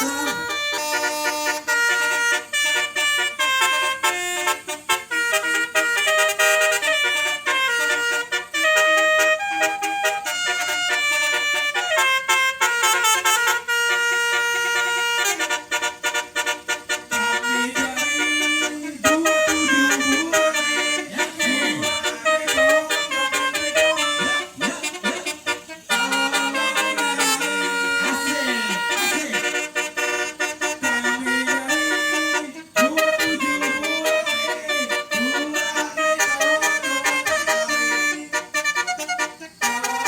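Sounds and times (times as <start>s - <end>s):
musical horn melody: 0.0s - 40.0s.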